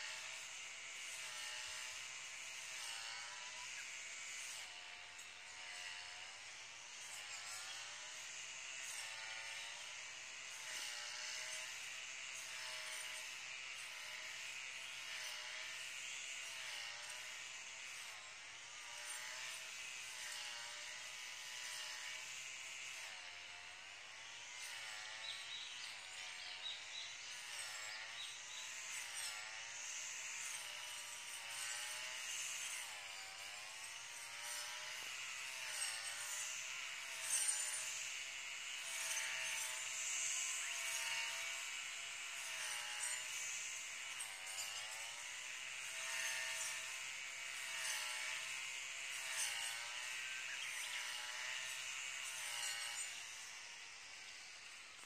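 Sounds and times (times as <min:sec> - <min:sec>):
distant brush cutter engine: 0:00.0 - 0:55.0.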